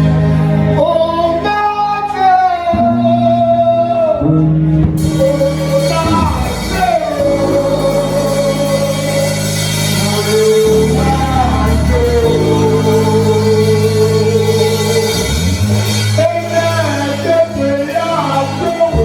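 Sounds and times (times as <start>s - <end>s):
church worship song: 0.0s - 19.0s.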